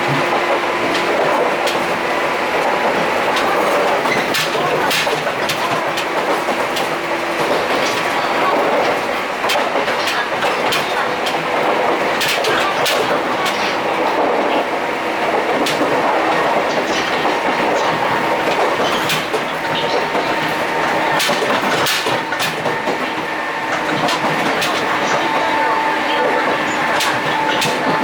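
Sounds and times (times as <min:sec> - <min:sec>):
gangway plate clanks and rattles: 0:00.0 - 0:28.0
train running noise: 0:00.0 - 0:28.0
wheels clicking over rail joints: 0:00.0 - 0:28.0.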